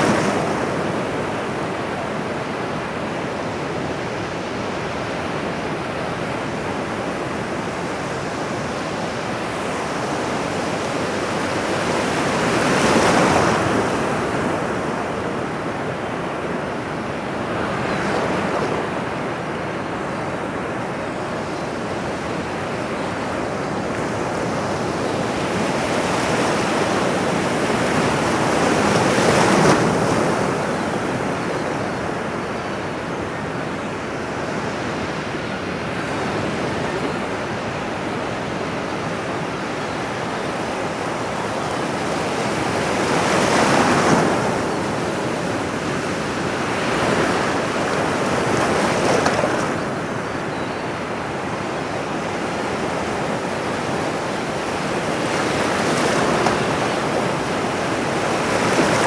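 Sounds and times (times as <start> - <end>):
ocean waves breaking: 7.2 - 59.0.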